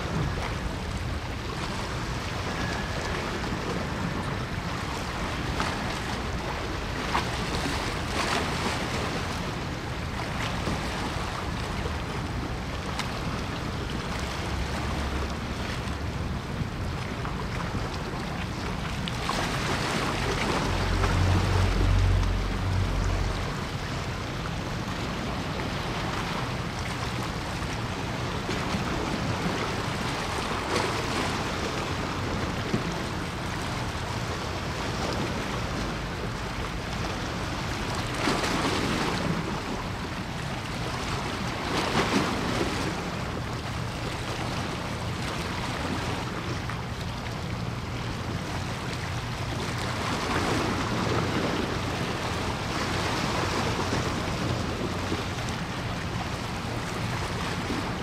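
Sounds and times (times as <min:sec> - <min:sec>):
sea water washing: 0:00.0 - 0:58.0.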